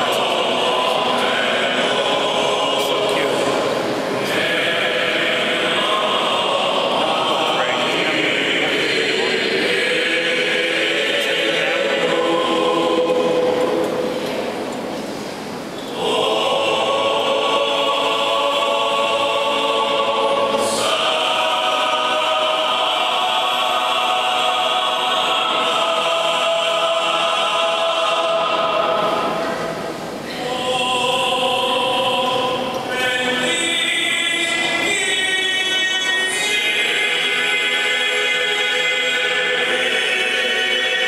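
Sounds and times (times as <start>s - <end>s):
choir chanting held notes: 0.0s - 41.0s.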